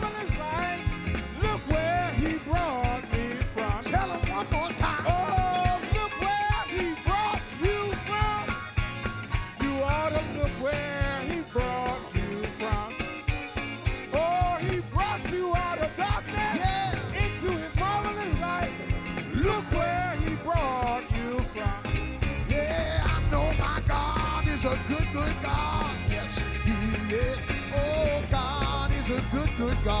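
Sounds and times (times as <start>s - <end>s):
person singing: 0.0s - 8.6s, 9.6s - 13.1s, 14.1s - 30.0s
bass: 0.0s - 30.0s
drum kit beat: 0.0s - 30.0s
electric guitar: 0.0s - 30.0s
keyboard: 0.0s - 30.0s.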